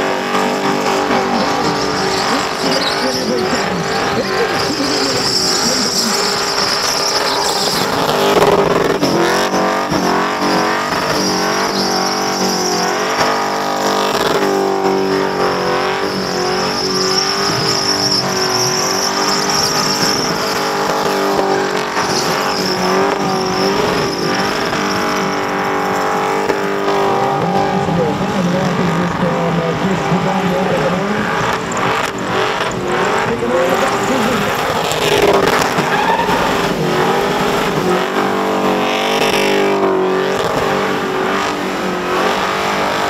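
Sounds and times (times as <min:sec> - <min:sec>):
car engine revving high: 0:00.0 - 0:43.0
tyres screeching: 0:00.0 - 0:43.0.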